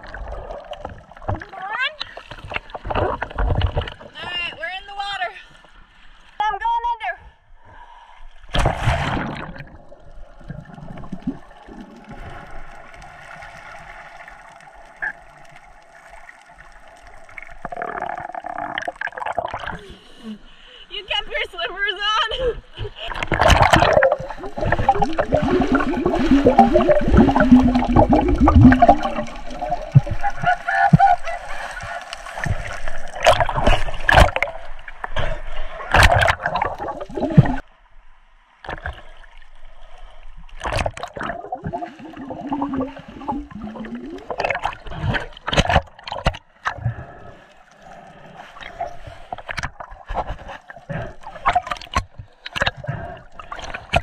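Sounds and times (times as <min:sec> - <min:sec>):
bubbling: 0:00.0 - 0:04.2, 0:08.6 - 0:20.0, 0:23.0 - 0:37.7, 0:40.5 - 0:54.0
water sloshing and splashing: 0:00.0 - 0:06.5, 0:08.4 - 0:20.3, 0:22.6 - 0:37.8, 0:38.4 - 0:54.0.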